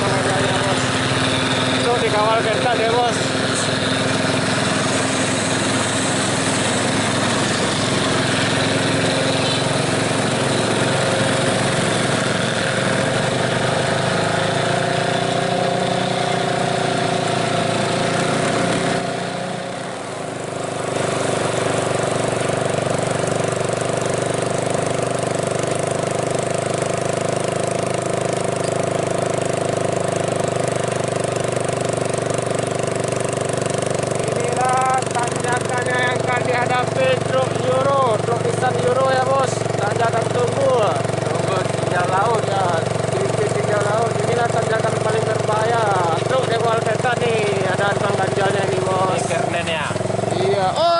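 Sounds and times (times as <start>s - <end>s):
truck diesel engine under heavy load: 0.0s - 50.9s.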